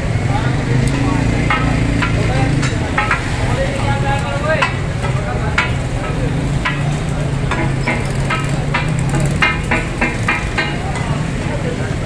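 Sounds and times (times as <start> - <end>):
metal spatulas clanging on griddle: 0.9 - 11.4.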